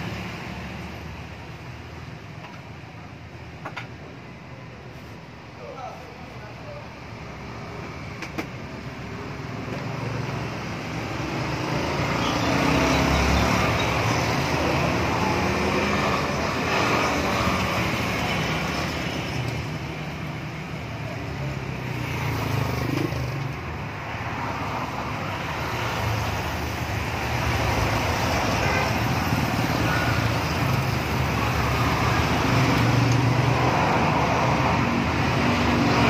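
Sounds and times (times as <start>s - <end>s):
road traffic rush: 0.0s - 36.0s.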